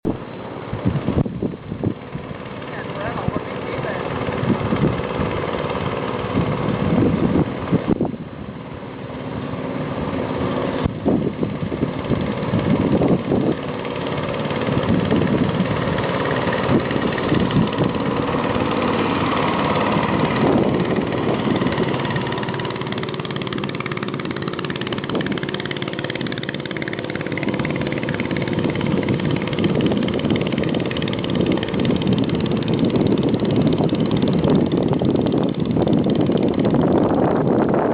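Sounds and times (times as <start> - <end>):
small boat engine running: 0.0 - 37.9.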